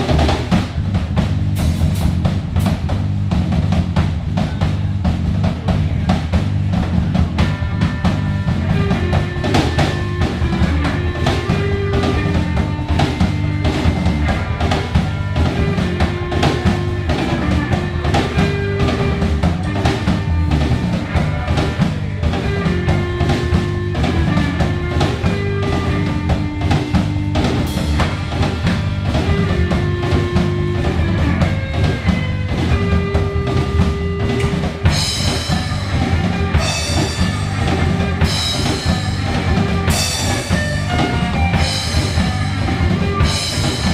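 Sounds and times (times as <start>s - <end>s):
bass guitar: 0.0s - 43.9s
drum kit beat: 0.0s - 43.9s
electric guitar melody: 7.2s - 43.9s.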